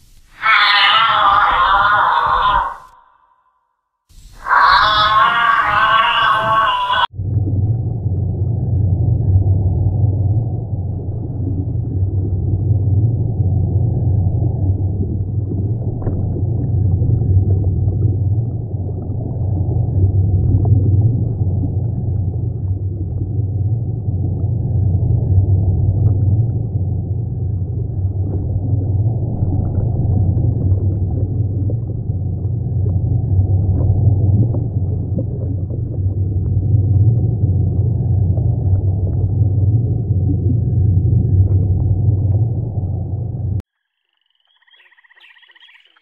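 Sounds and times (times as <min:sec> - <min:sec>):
low watery rumble: 0:04.1 - 0:43.6.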